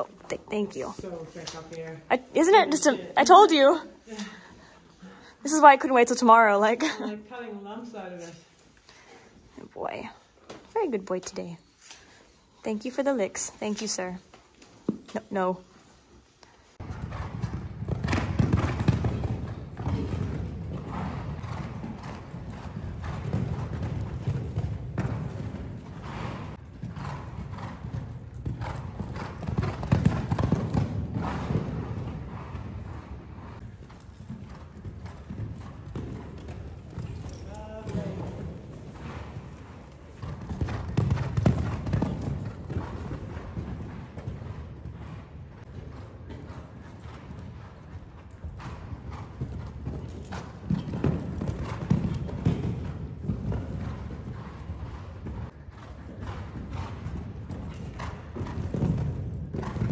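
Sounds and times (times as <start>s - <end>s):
horse breathing: 3.2s - 5.8s, 8.3s - 56.3s.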